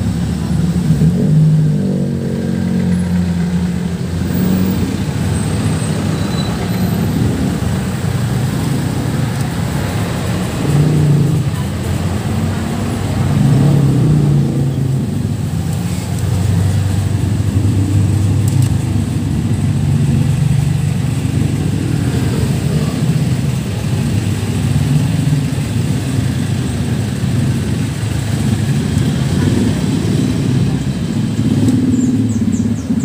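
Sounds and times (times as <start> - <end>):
engine low rumble: 0.0 - 33.0.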